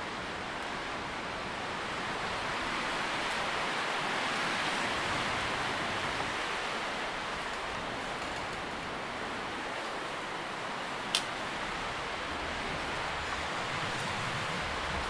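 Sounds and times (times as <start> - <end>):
leaves rustling in wind: 0.0 - 15.0.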